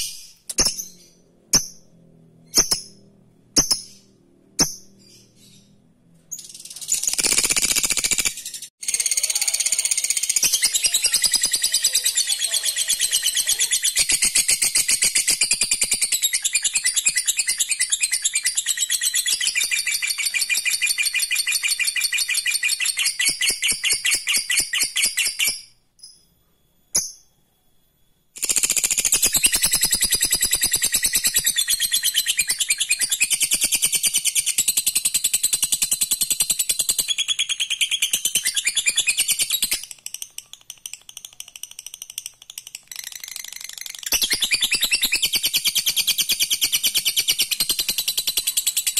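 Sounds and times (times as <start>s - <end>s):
bird chirps: 0.0s - 48.9s.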